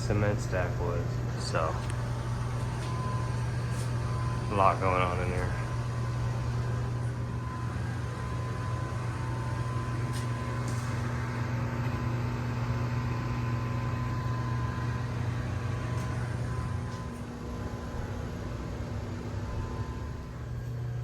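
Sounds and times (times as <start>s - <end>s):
faint high whine: 0.0s - 21.0s
machinery humming: 0.0s - 21.0s.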